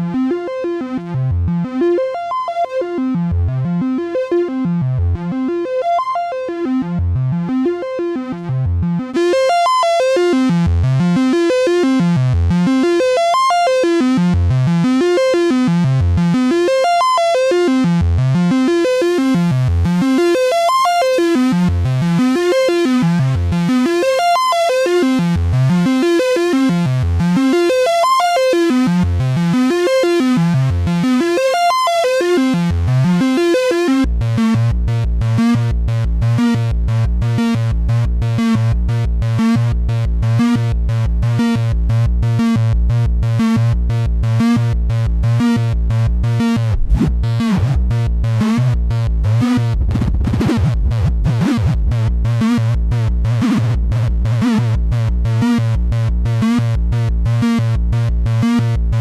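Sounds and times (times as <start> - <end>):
synthesizer note pattern: 0.0 - 42.5, 43.2 - 59.0.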